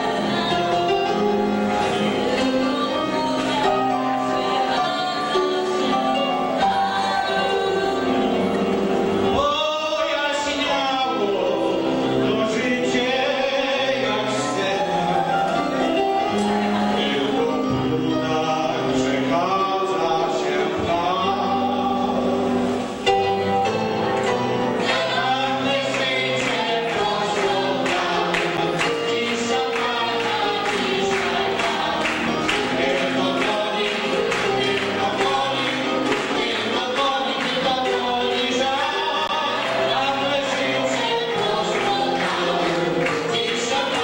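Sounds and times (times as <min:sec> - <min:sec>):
group singing: 0:00.0 - 0:44.0
piano accompaniment: 0:00.0 - 0:44.0.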